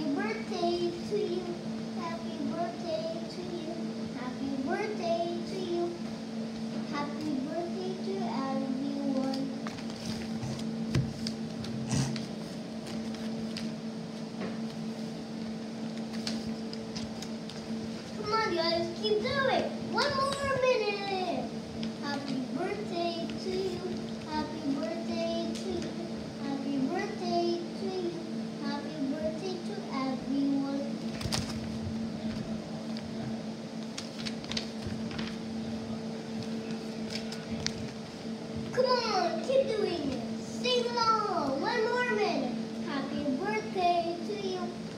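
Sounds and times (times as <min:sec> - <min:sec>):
two-tone electrical hum: 0:00.0 - 0:44.9.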